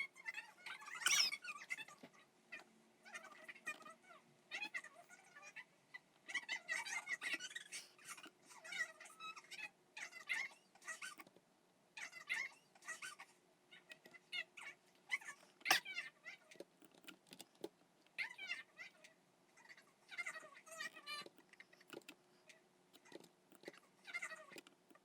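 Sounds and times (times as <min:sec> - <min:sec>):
pet animal high-pitched wavering cries: 0:00.0 - 0:11.2, 0:12.0 - 0:16.6, 0:18.2 - 0:21.8, 0:24.0 - 0:24.6.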